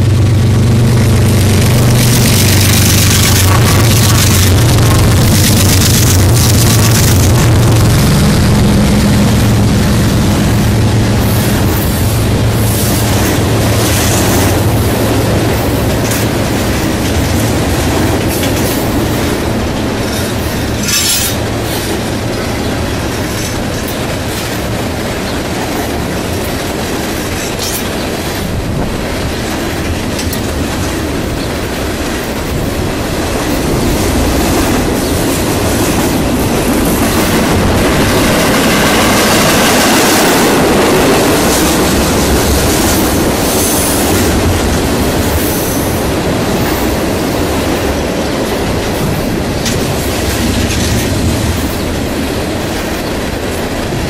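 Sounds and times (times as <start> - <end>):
diesel locomotive drone: 0.0 - 54.0
freight train wheels rumbling: 0.0 - 54.0.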